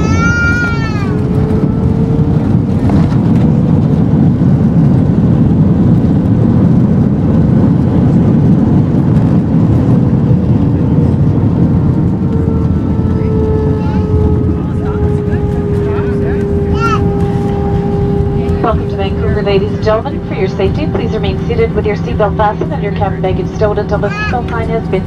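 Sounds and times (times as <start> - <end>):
jet engines rumbling in cabin: 0.0 - 25.0.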